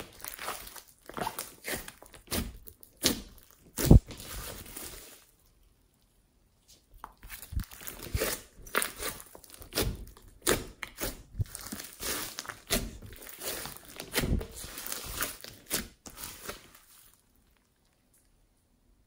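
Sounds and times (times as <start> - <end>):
slime squishing and popping: 0.0 - 5.0, 7.0 - 17.8.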